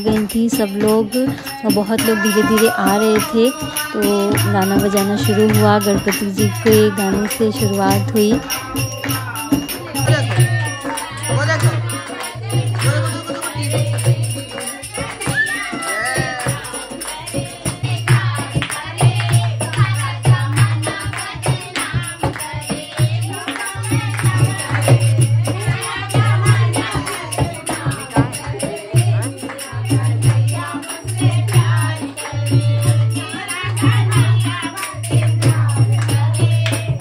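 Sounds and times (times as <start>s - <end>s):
clapping and rattle rhythm: 0.0s - 37.0s
women singing folk song: 0.0s - 37.0s.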